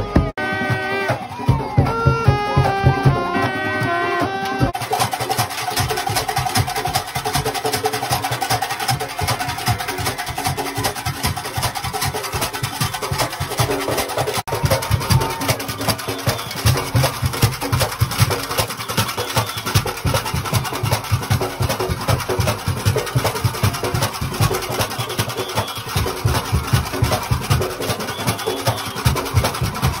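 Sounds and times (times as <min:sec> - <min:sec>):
fast drumming: 0:00.0 - 0:30.0.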